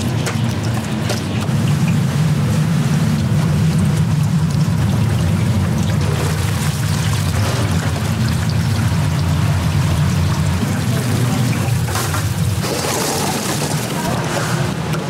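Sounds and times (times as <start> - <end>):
oil sizzling and bubbling: 0.0 - 15.0.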